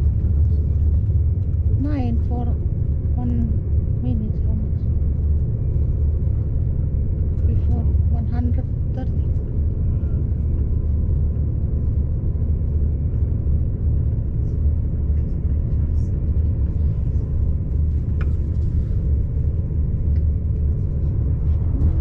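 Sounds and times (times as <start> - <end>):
faint steady whine: 0.0 - 22.0
train rumbling from inside carriage: 0.0 - 22.0.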